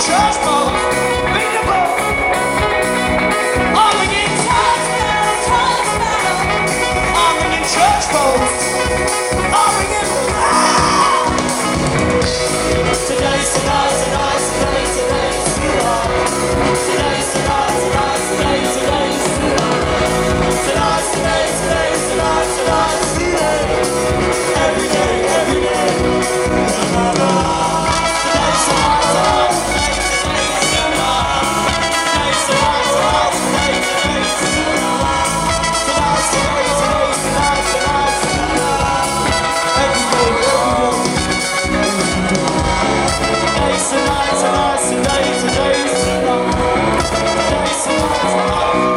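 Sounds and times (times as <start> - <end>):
live rock band playing: 0.0 - 48.9
person singing: 9.5 - 48.9.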